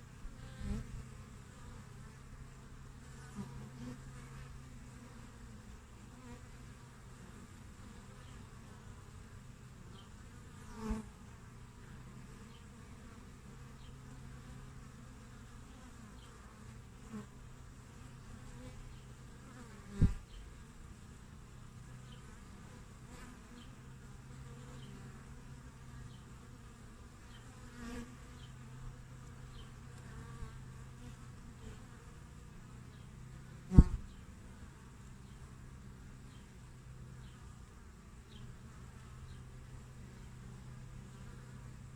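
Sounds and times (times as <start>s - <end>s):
bee passing close: 0.0s - 41.9s
bees humming at hive: 0.0s - 41.9s.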